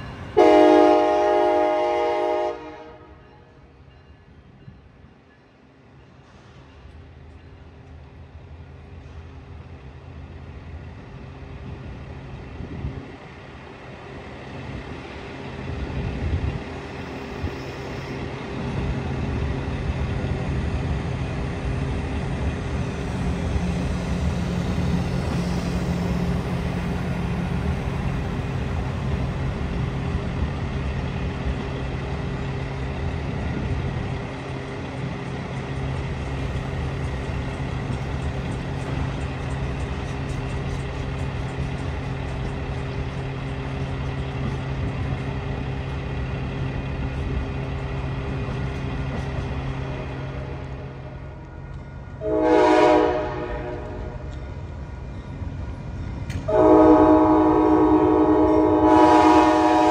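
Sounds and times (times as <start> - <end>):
diesel locomotive engine hum: 0.0 - 59.9
rail noise: 0.0 - 59.9.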